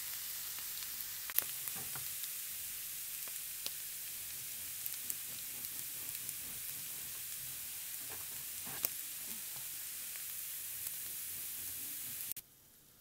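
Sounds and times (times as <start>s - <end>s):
small crackles and pops: 0.0s - 12.5s
mushrooms sizzling in a frying pan: 0.0s - 13.0s.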